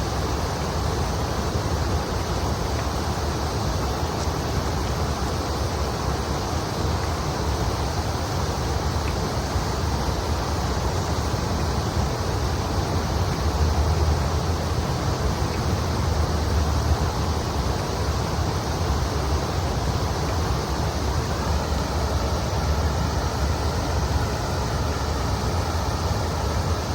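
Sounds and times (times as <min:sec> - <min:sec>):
river water flowing: 0:00.0 - 0:26.9.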